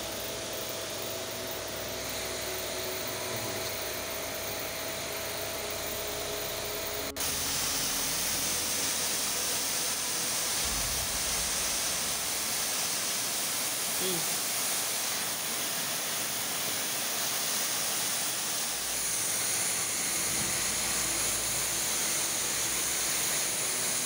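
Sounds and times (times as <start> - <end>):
high-pressure water jet hissing: 0.0 - 24.0
pressure washer motor humming: 0.0 - 24.0.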